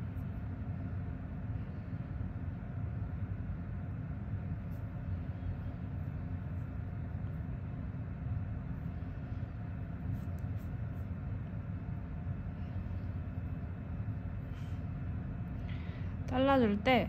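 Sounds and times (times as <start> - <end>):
low motor-like hum: 0.0 - 17.0.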